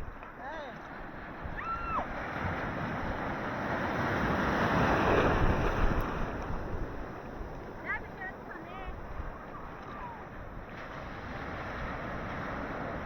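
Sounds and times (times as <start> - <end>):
wind buffeting microphone: 0.0 - 13.0
ocean wave rushing in: 1.0 - 13.0.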